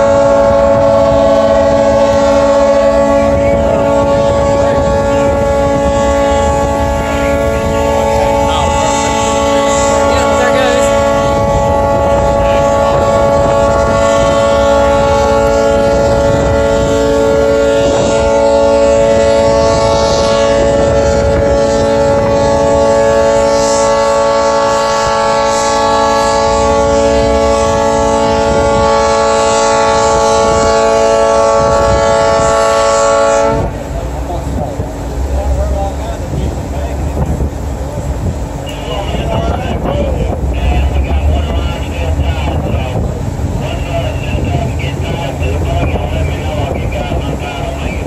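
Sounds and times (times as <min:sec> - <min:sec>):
ships' horns blowing a chord: 0:00.0 - 0:48.0.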